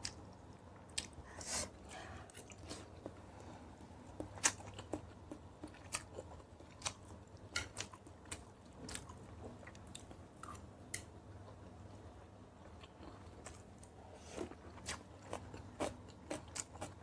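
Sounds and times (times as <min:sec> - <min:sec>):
person chewing food: 0:01.9 - 0:11.7, 0:12.6 - 0:17.0.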